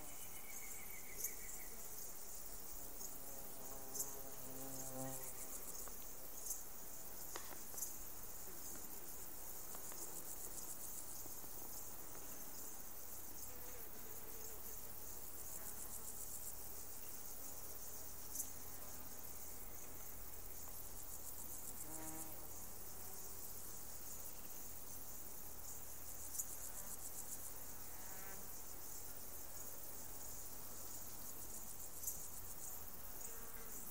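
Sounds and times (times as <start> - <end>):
insects chirring: 0.0 - 33.9.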